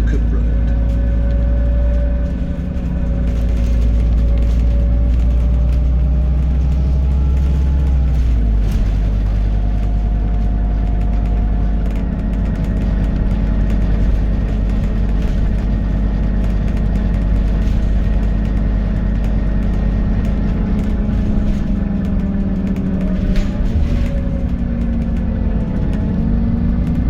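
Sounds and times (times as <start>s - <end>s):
bus engine running: 0.0s - 27.0s
road noise: 0.0s - 27.0s.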